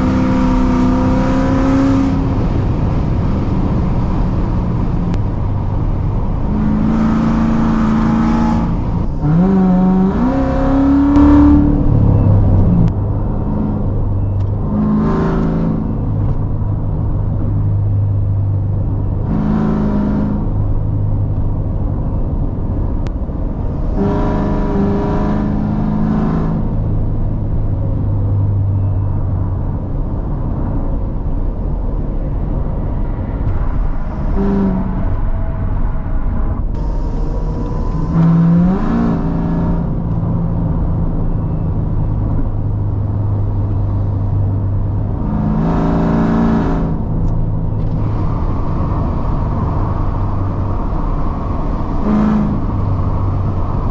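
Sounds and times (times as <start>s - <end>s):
car exhaust drone with revving: 0.0s - 53.9s.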